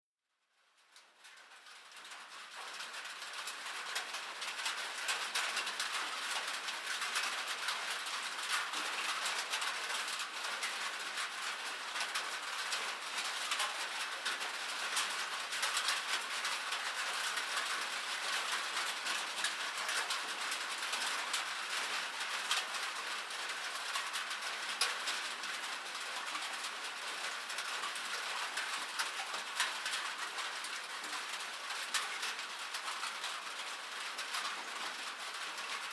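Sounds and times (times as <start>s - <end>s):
light rain pattering: 0.4s - 35.9s.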